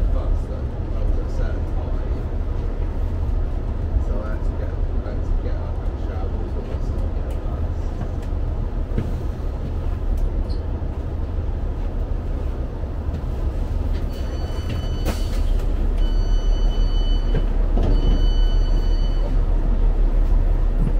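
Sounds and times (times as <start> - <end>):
train engine rumble: 0.0 - 20.9.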